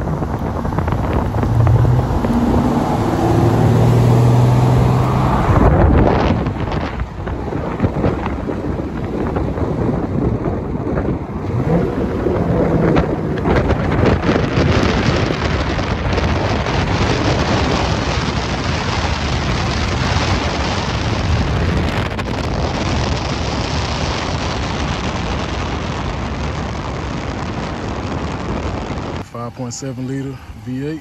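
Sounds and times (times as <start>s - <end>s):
car road noise: 0.0s - 31.0s
wind buffeting microphone: 0.0s - 31.0s.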